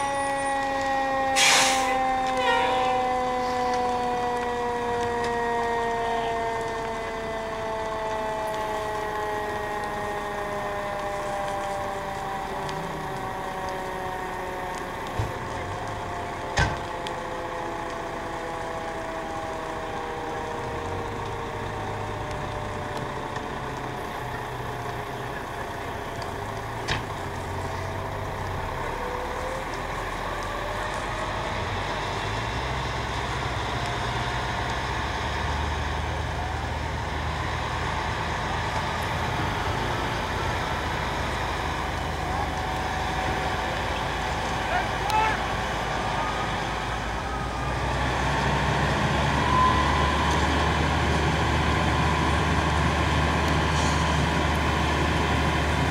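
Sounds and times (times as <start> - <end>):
fire truck engine rumble: 0.0 - 55.9.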